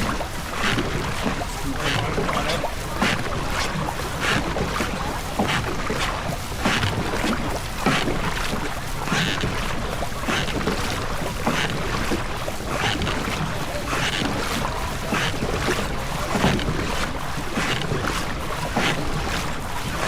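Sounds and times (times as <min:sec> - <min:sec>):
paddles pulling through water: 0:00.0 - 0:20.0
wind rumbling on microphone: 0:00.0 - 0:20.0.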